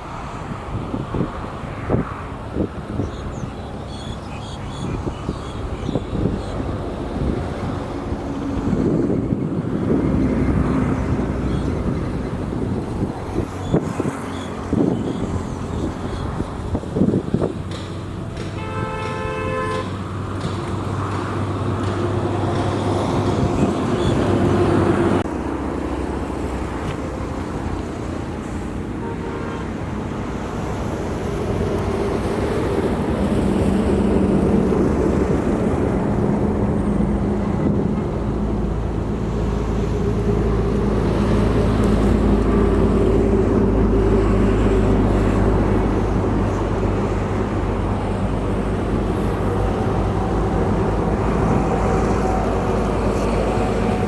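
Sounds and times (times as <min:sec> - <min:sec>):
vehicles passing on road: 0:00.0 - 0:54.0.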